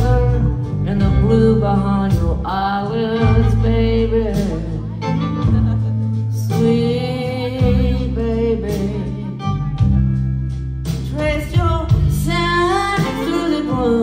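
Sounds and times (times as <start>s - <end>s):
sustained bass notes: 0.0s - 14.0s.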